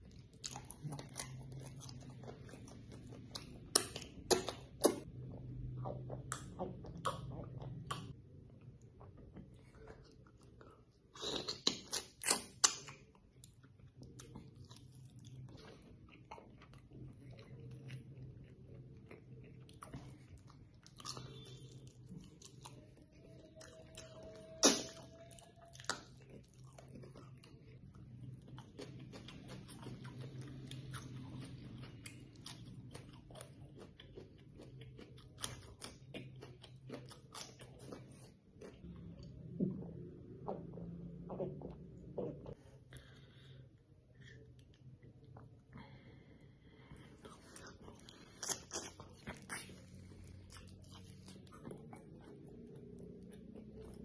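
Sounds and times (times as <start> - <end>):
chewing and biting: 0.0 - 39.3, 46.9 - 54.0.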